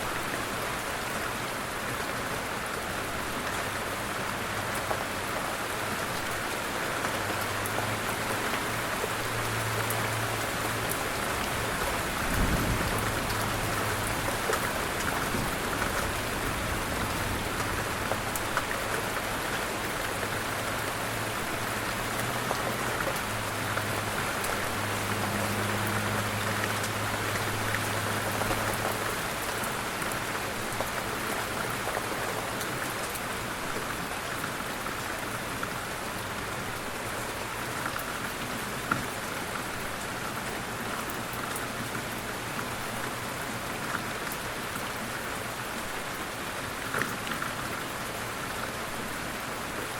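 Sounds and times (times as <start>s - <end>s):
light rain pattering: 0.0s - 49.9s.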